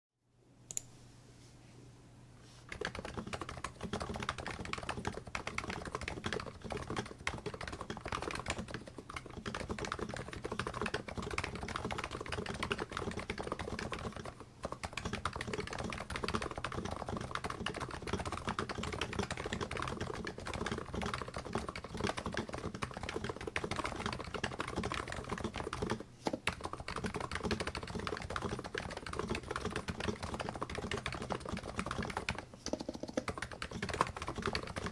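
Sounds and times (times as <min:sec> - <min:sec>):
keyboard typing: 0:02.7 - 0:34.9.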